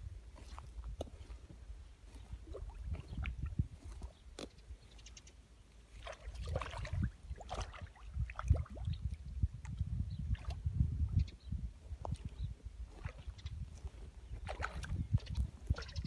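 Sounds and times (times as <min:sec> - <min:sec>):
fish splashing in shallow water: 0:00.3 - 0:05.0, 0:05.8 - 0:10.7, 0:12.0 - 0:16.0.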